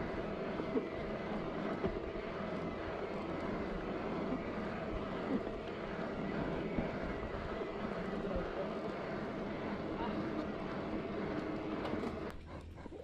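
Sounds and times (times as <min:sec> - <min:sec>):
faint motor hum: 0:00.0 - 0:13.0.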